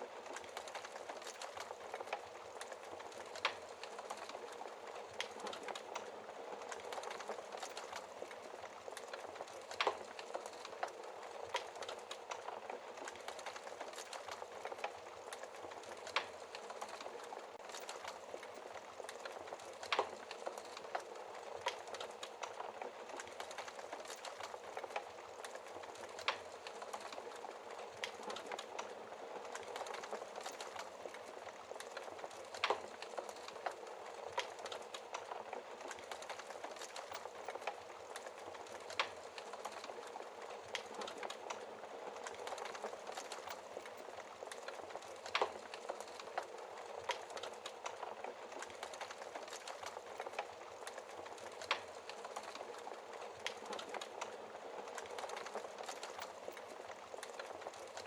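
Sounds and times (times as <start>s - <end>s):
hiss and rustle of flames: 0.0s - 58.0s
logs crackling and popping: 0.0s - 58.0s.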